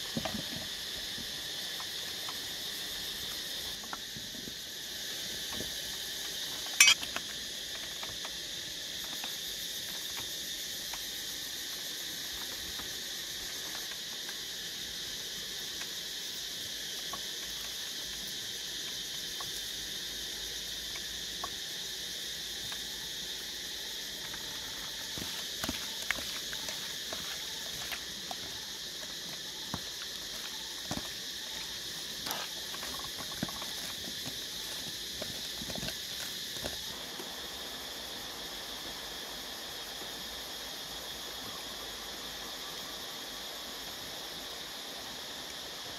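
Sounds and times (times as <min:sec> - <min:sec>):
insect chorus droning: 0:00.0 - 0:45.9.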